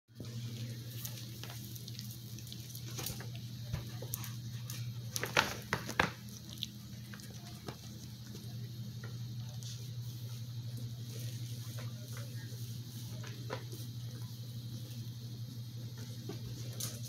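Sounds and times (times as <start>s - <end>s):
steady low hum: 0.1s - 17.0s
puppies rustling in dog bed: 0.2s - 8.6s, 9.2s - 17.0s.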